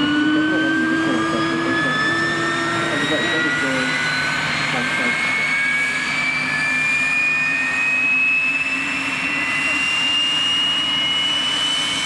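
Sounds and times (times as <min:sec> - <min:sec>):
jet engine turbine whine: 0:00.0 - 0:12.0
low hum: 0:00.0 - 0:12.0.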